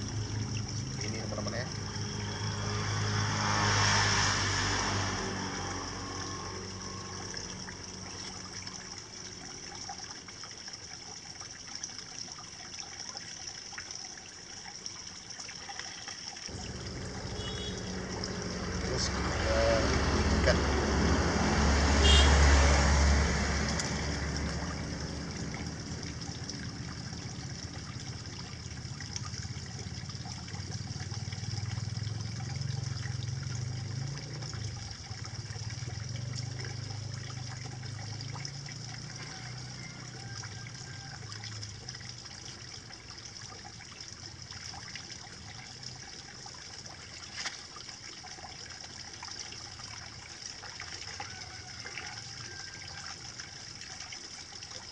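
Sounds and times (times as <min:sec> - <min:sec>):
water running and trickling: 0:00.0 - 0:54.9.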